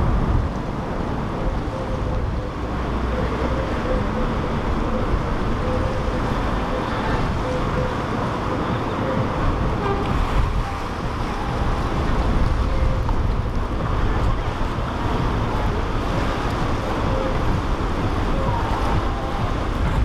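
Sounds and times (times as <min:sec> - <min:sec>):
boat engines rumbling: 0:00.0 - 0:20.0
waves: 0:00.0 - 0:20.0
wind buffeting microphone: 0:00.0 - 0:20.0.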